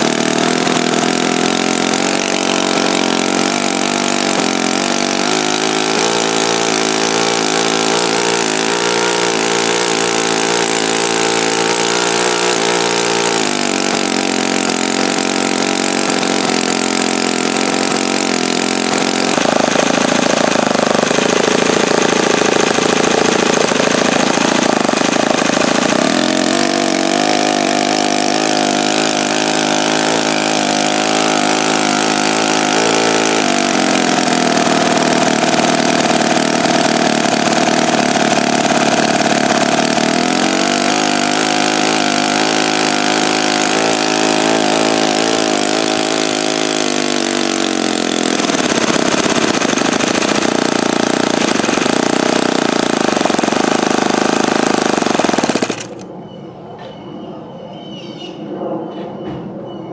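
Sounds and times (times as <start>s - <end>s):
model aircraft engine running: 0.0s - 56.1s.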